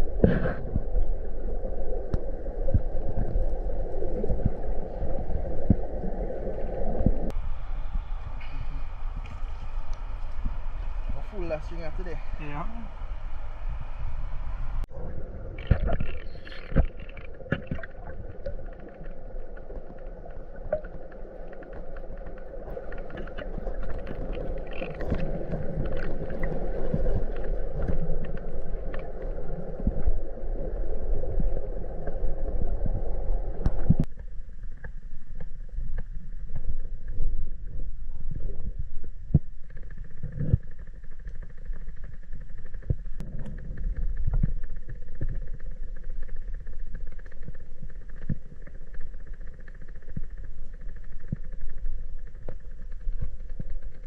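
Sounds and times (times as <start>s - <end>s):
muffled gurgling water: 0.0s - 54.0s.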